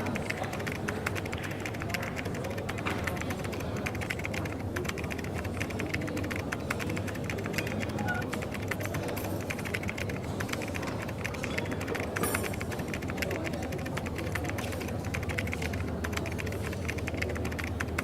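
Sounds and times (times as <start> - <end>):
coffee shop background noise: 0.0 - 18.0
rapid keyboard typing: 0.0 - 18.0.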